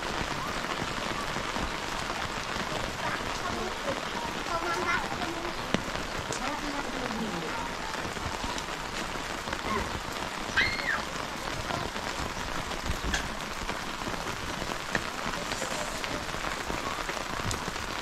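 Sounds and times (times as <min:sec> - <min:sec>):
heavy rain falling: 0:00.0 - 0:18.0
raindrops ticking close by: 0:00.0 - 0:18.0.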